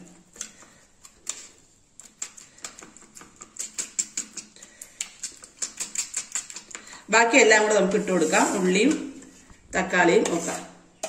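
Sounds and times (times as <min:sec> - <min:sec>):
metal utensil whisking eggs in bowl: 0:00.2 - 0:10.7.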